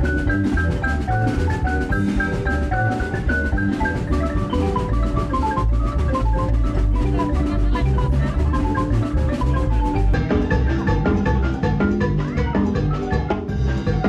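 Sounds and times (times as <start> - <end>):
drum kit steady beat: 0.0 - 14.0
marimba playing: 0.0 - 14.0.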